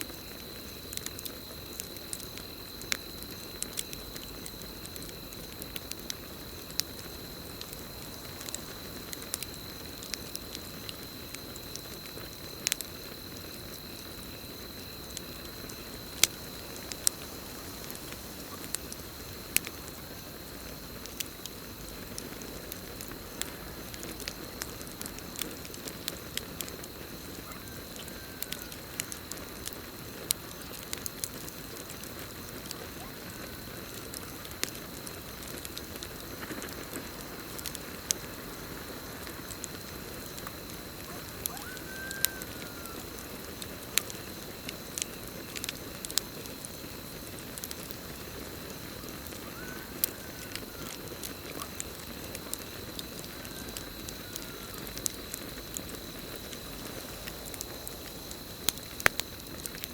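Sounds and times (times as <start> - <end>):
campfire crackling: 0.0 - 59.9
cricket trill: 0.0 - 59.9.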